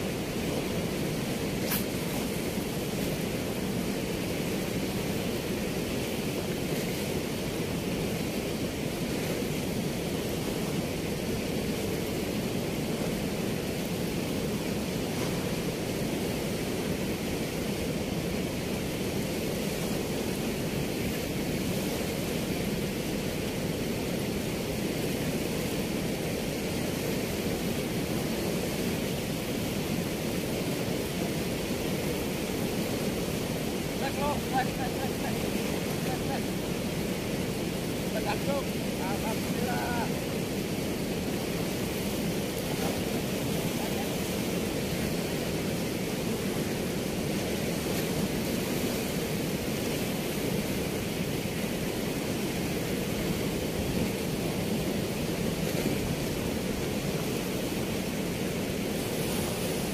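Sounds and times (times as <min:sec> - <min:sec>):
river water rushing through weir: 0:00.0 - 0:59.9.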